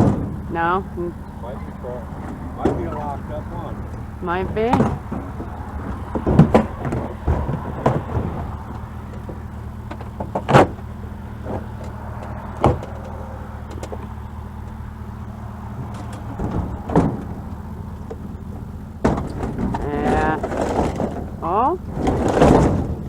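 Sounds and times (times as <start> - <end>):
sharp knocks and clunks: 0.0 - 23.0
vehicle engine idling: 0.0 - 23.0.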